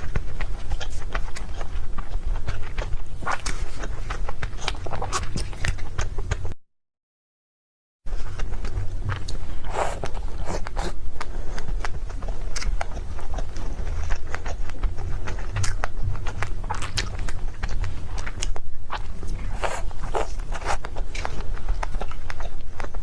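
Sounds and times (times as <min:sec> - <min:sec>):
person chewing cake: 0:00.0 - 0:06.6, 0:08.1 - 0:23.0.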